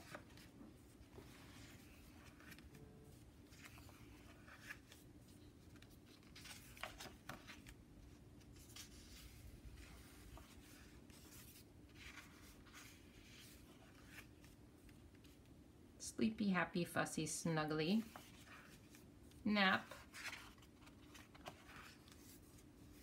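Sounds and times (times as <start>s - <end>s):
paper rustling: 0.0s - 15.4s, 19.8s - 23.0s.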